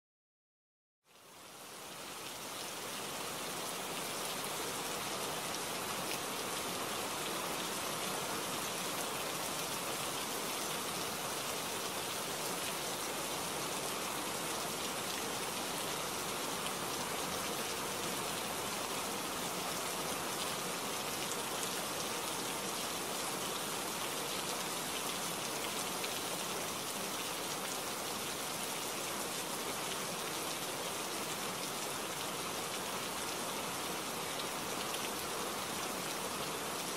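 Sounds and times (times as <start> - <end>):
steady rainfall: 1.1 - 36.9.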